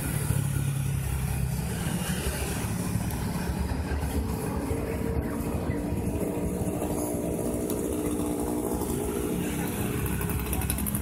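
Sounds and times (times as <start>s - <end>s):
road traffic rumble: 0.0s - 11.0s
steady engine hum: 0.0s - 11.0s.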